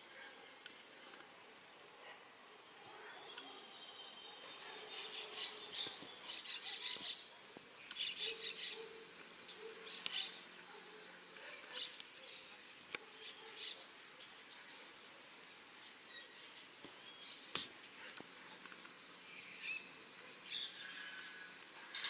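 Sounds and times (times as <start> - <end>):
birds chirping: 2.6 - 22.0.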